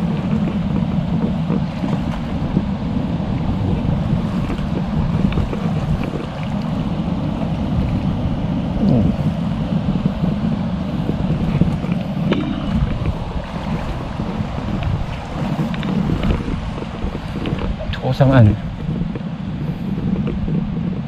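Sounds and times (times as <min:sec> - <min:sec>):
stream water rushing: 0:00.0 - 0:21.0
wind rumble on microphone: 0:00.0 - 0:21.0.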